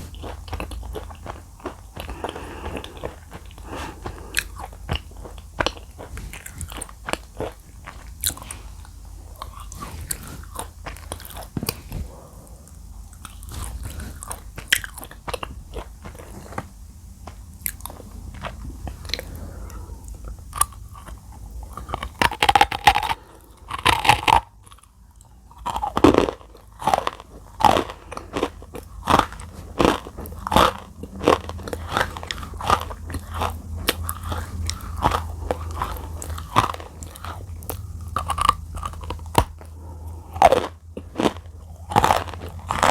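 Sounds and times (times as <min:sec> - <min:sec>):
chewing crunchy clay: 0:00.0 - 0:42.9.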